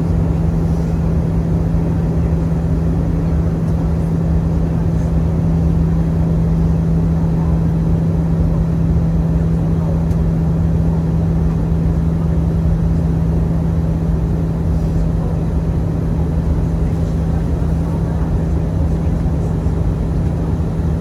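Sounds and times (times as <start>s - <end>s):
airplane cabin engine drone: 0.0s - 21.0s
constant low hum: 0.0s - 21.0s.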